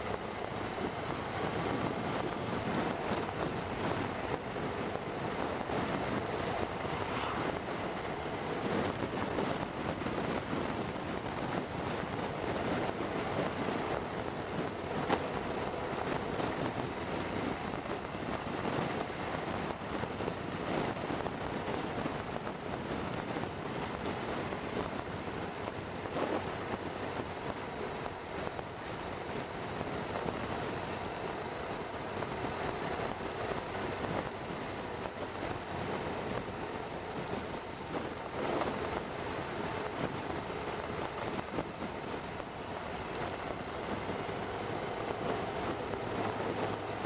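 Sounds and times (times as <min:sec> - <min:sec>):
wind and road noise: 0:00.0 - 0:47.0.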